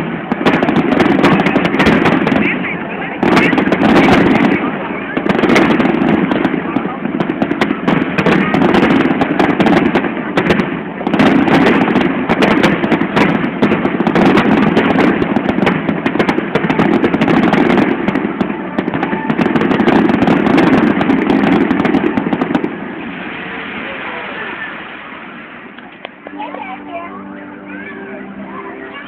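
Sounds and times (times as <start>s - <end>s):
fireworks cracking and popping: 0.0s - 28.0s.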